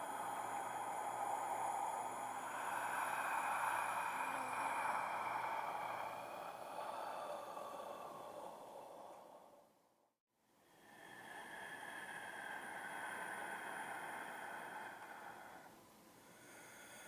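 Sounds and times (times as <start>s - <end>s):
breath-like creature hiss: 0.0s - 9.7s, 10.7s - 17.0s.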